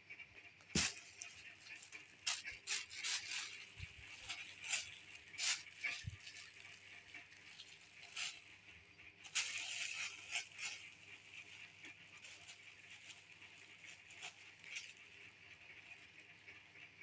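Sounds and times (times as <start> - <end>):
plastic bag crinkling: 0.8 - 8.6, 9.2 - 16.3.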